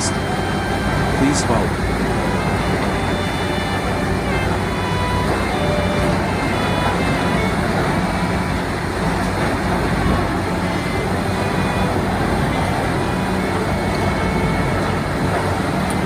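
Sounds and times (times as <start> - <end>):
heavy machinery running: 0.0 - 16.0.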